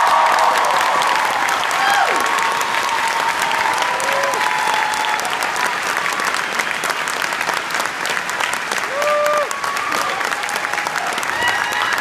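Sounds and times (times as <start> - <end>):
audience applauding: 0.0 - 12.0
people cheering: 0.0 - 12.0.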